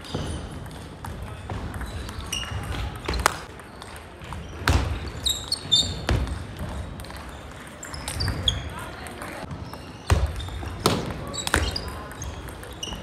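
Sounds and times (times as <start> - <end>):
sneakers squeaking on wooden floor: 0.0 - 13.0.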